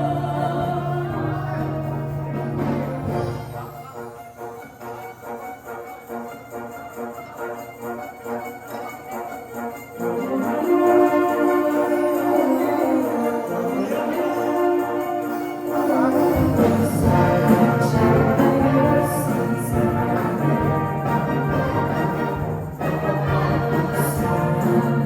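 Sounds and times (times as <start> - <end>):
low brass and percussion: 0.0 - 25.0
wind band playing with brass: 0.0 - 25.0.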